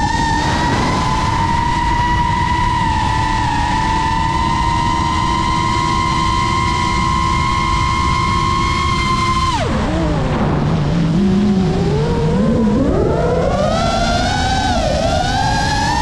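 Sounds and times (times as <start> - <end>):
drone motors whining: 0.0 - 16.0
steady rushing noise: 0.0 - 16.0.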